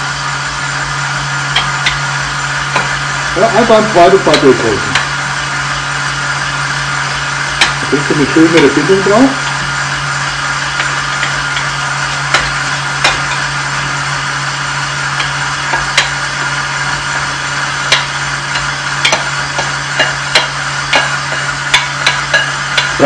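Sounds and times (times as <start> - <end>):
meat grinder motor humming: 0.0 - 23.0.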